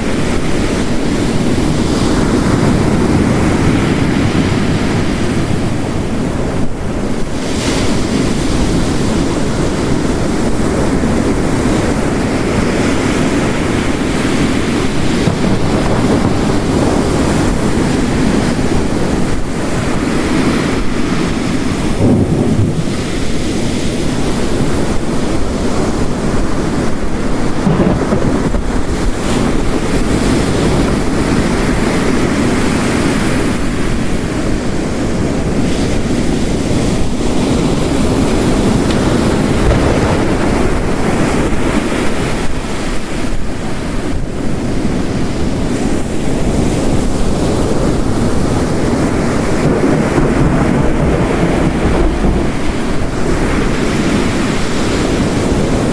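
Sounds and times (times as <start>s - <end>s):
heavy rain: 0.0s - 55.9s
ocean waves crashing: 0.0s - 55.9s.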